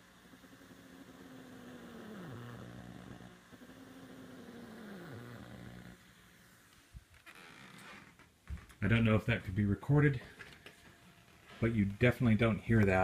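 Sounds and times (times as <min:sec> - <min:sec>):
interference buzz from speakers: 0:00.0 - 0:13.0.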